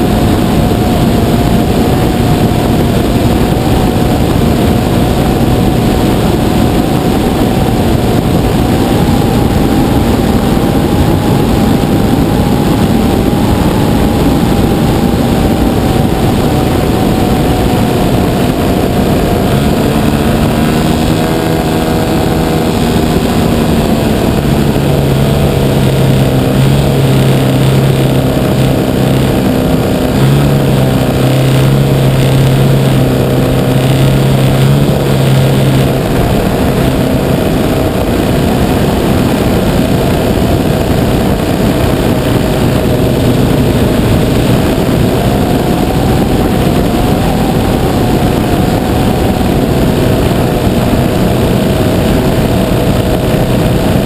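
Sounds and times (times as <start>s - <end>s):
heavy wind rush: 0.0s - 54.0s
model plane engine and propeller: 0.0s - 54.0s.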